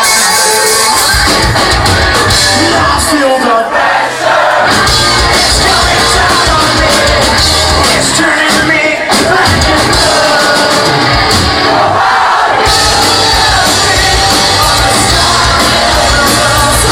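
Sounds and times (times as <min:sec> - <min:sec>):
live metal band playing: 0:00.0 - 0:03.6, 0:04.6 - 0:16.9
crowd noise: 0:00.0 - 0:16.9.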